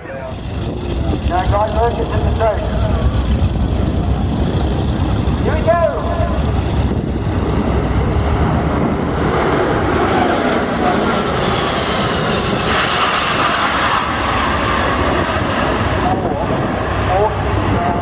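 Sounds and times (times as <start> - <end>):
faint jet whine: 0.0 - 18.0
jet engines roaring: 0.0 - 18.0.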